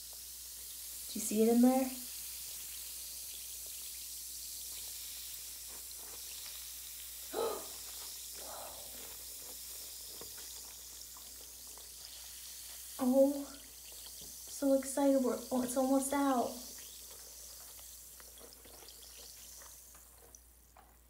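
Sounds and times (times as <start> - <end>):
bath bomb fizzing in water: 0.0 - 21.0.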